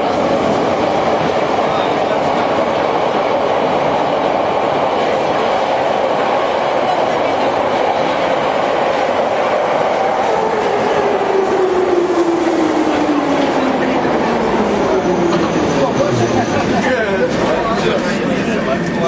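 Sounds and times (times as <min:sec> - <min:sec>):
train wheels rumbling: 0:00.0 - 0:19.0.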